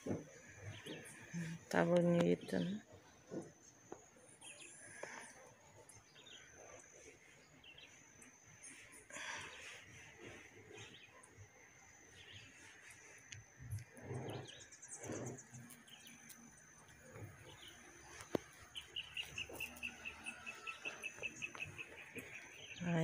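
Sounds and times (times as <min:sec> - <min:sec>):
birdsong chirps and trills: 0:00.1 - 0:23.0.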